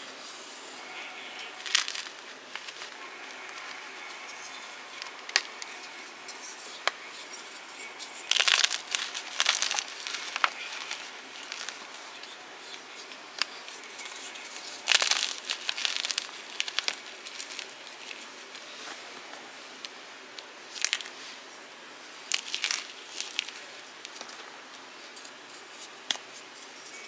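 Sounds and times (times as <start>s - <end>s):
chalk crunching: 0.7s - 21.4s, 22.1s - 24.3s.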